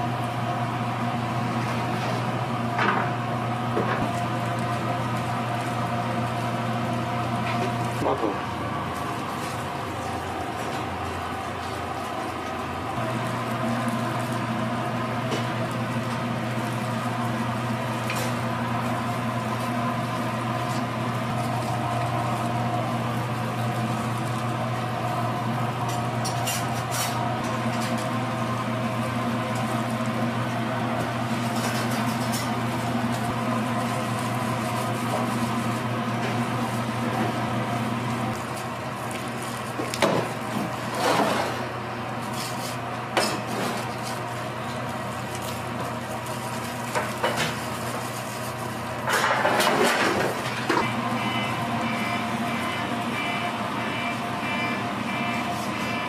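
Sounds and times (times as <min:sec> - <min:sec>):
kitchen equipment humming: 0:00.0 - 0:56.0.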